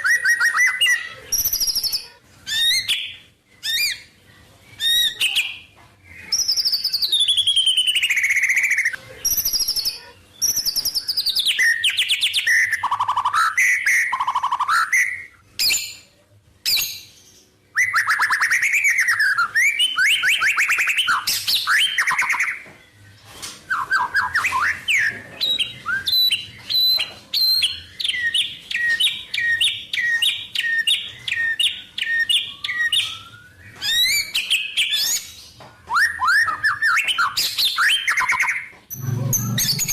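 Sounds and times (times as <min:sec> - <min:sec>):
songbird whistling and trilling: 0:00.0 - 0:16.0, 0:16.6 - 0:22.9, 0:23.7 - 0:39.9.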